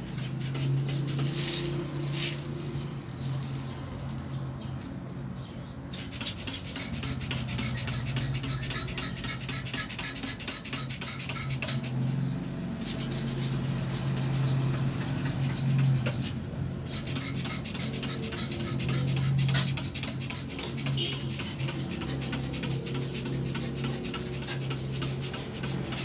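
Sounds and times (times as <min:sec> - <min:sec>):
brush scrubbing: 0:00.0 - 0:02.4, 0:06.0 - 0:12.0, 0:12.8 - 0:26.0.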